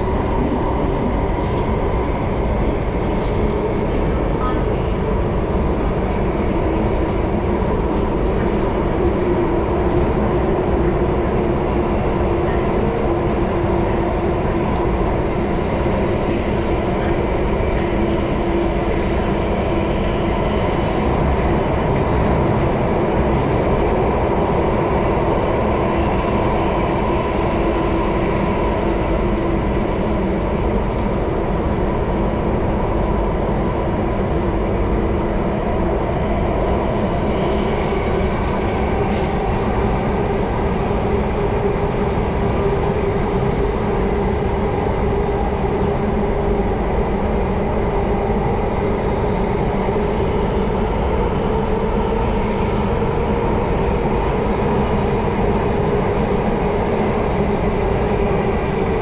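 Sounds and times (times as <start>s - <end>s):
train rumbling in motion: 0.0s - 59.0s.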